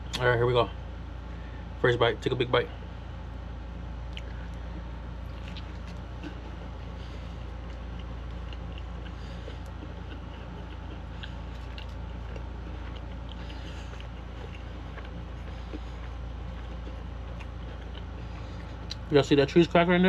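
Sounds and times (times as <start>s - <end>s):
steady low hum: 0.0s - 20.0s
biting and chewing crunchy food: 2.8s - 20.0s.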